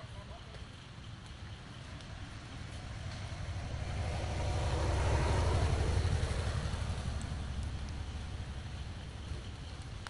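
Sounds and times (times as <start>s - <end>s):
motor vehicle passing by: 0.6s - 10.0s.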